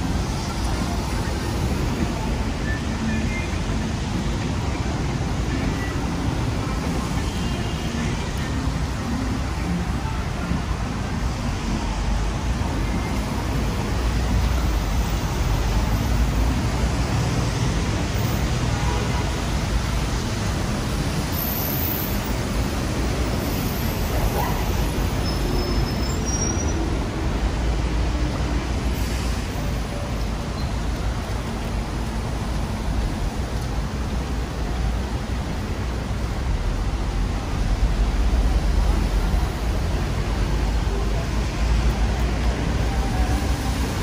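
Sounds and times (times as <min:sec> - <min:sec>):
tyres hissing on wet asphalt: 0:00.0 - 0:44.0
vehicles passing: 0:00.0 - 0:44.0.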